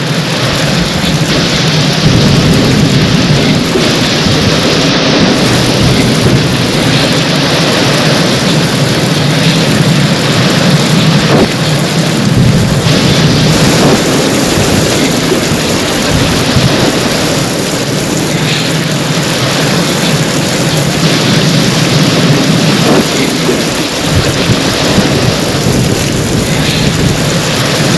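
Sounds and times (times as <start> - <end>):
heavy rain hissing: 0.0 - 27.9
low rumble of thunder: 0.0 - 27.9.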